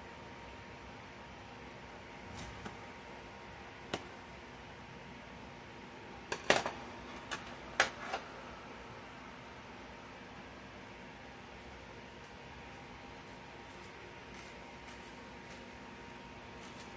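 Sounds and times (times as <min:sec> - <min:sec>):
faint room hum: 0:00.0 - 0:16.9.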